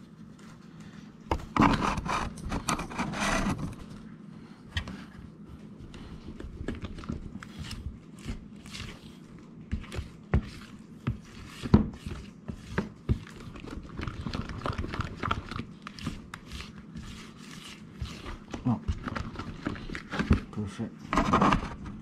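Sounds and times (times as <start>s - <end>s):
batter squelching and scraping: 0.0s - 22.0s.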